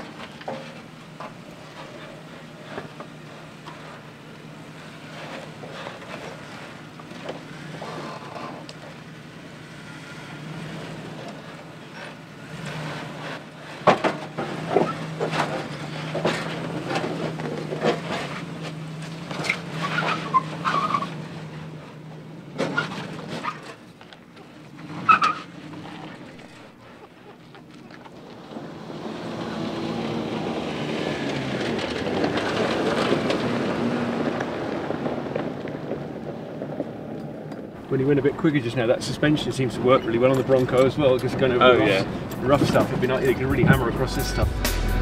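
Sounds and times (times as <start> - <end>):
engine running at low crawl: 0.0 - 20.5, 21.1 - 45.0.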